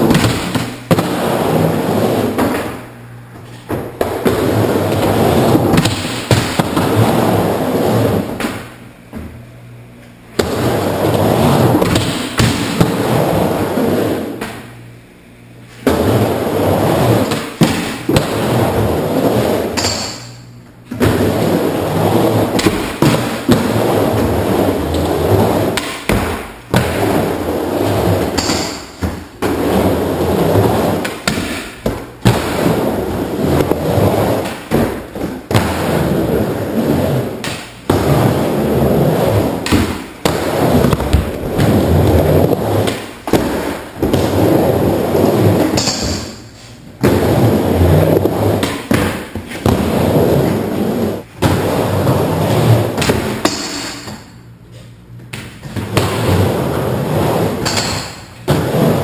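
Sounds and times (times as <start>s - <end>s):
skateboard wheels rumbling on ramp: 0.0s - 2.9s, 3.8s - 8.4s, 10.4s - 14.4s, 15.8s - 19.8s, 21.0s - 46.3s, 46.9s - 53.2s, 55.8s - 57.7s, 58.4s - 59.0s.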